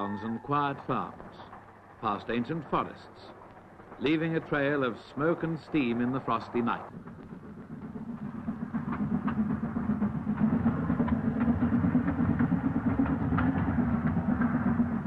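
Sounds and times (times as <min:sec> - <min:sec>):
steam train running rumble: 0:00.0 - 0:15.0.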